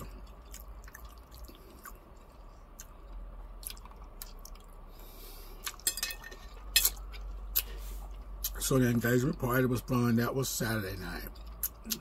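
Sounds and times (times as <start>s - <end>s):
wet chewing and mouth sounds: 0.0s - 9.4s, 11.1s - 12.0s.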